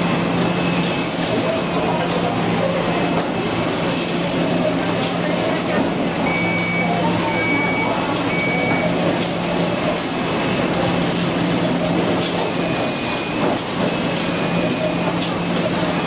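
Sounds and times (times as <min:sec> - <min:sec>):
packing machine clatter: 0:00.2 - 0:16.0.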